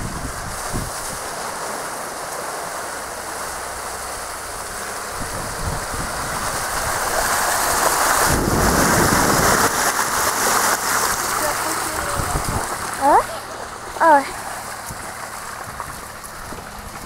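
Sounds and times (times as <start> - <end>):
tyres on muddy track: 0.0 - 17.0.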